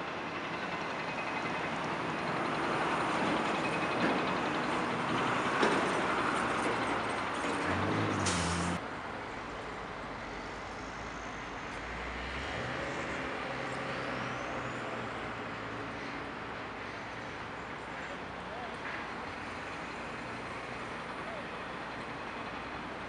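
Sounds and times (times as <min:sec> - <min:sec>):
heavy vehicle engine: 0:00.0 - 0:23.0
traffic hum: 0:00.3 - 0:23.0
vehicles passing: 0:00.4 - 0:23.0.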